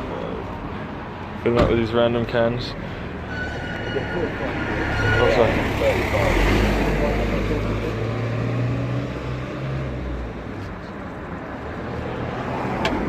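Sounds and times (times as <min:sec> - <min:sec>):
street noise: 0:00.0 - 0:13.0
vehicle engine humming: 0:00.0 - 0:13.0.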